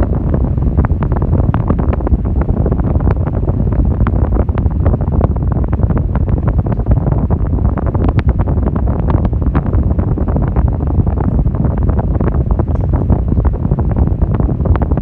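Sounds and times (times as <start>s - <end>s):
fan wind rumble: 0.0s - 15.0s.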